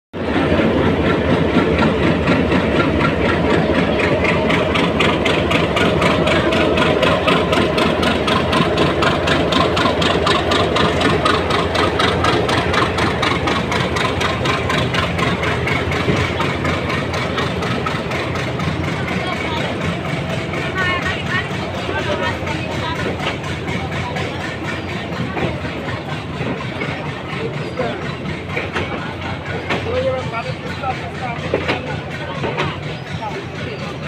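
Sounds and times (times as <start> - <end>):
train engine pulsing and rattling: 0.2 - 34.0.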